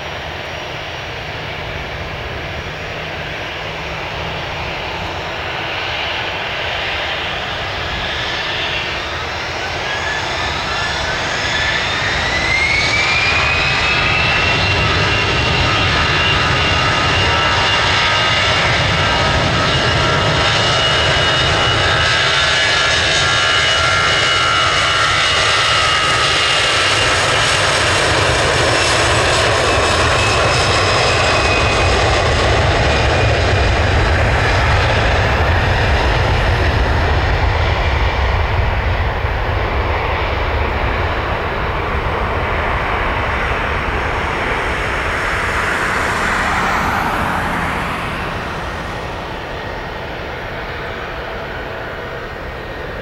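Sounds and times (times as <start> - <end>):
jet engine fan whine: 0.0 - 53.0
jet roar: 0.0 - 53.0.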